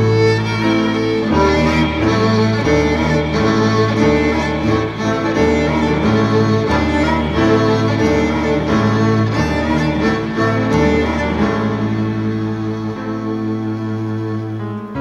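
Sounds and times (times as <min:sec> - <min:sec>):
bowed strings playing chords: 0:00.0 - 0:15.0.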